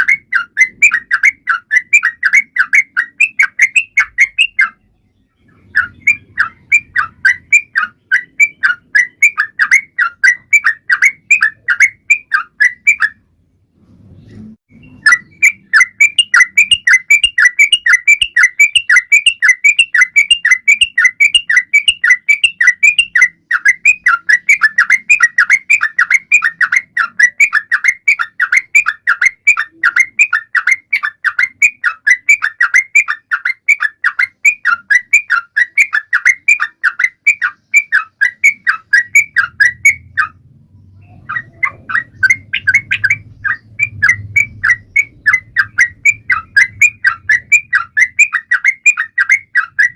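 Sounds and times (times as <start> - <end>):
bird chirping song: 0.0 - 49.9.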